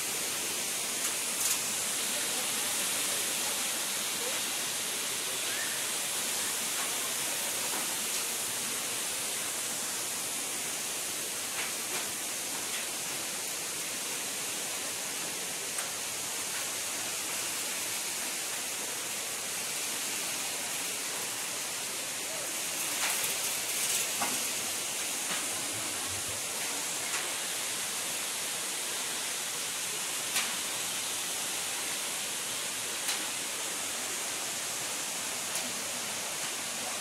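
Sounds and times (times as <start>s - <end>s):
waterfall rushing hiss: 0.0s - 37.0s.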